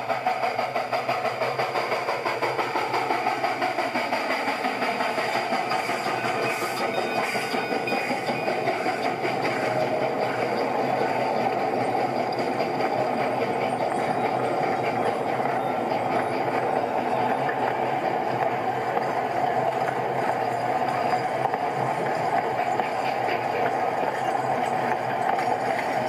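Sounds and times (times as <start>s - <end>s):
mechanical running noise with rattle: 0.0s - 26.0s.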